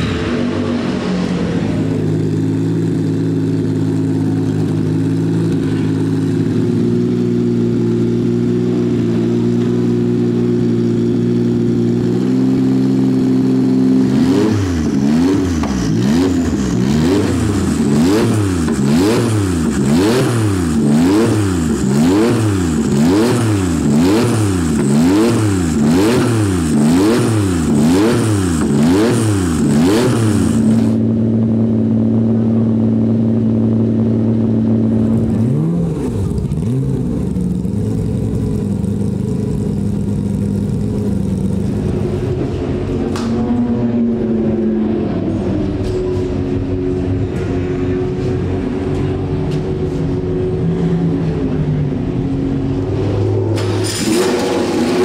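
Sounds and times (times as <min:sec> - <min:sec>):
race car engine revving: 0:00.0 - 0:31.3, 0:33.4 - 0:55.0.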